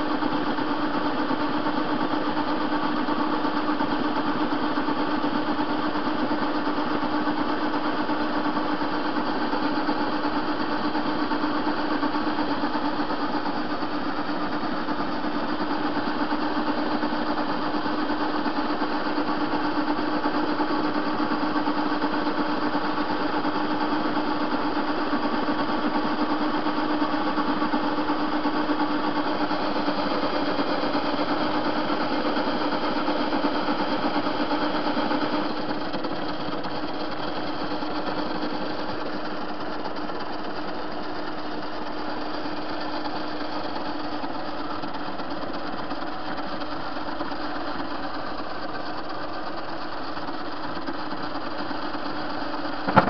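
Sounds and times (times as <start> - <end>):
metal lathe motor humming: 0.0 - 53.0.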